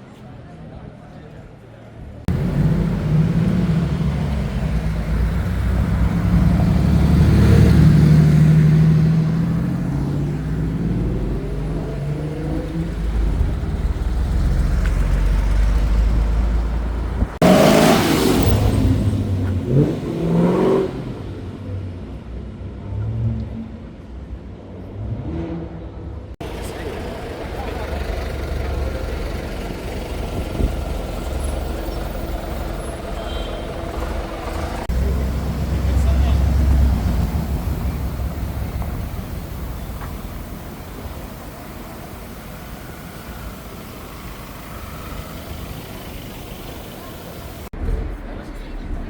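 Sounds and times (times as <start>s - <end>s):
car engines accelerating: 2.2s - 23.8s, 24.6s - 49.0s.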